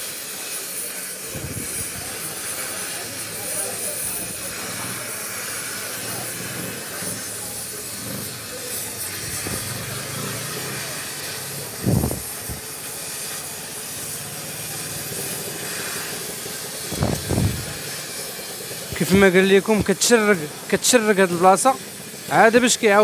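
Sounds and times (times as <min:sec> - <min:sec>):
welding torch flame hissing: 0:00.0 - 0:23.0.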